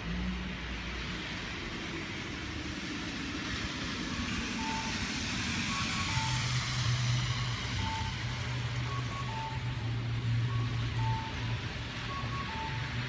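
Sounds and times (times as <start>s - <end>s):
traffic hiss on wet road: 0.0s - 13.0s.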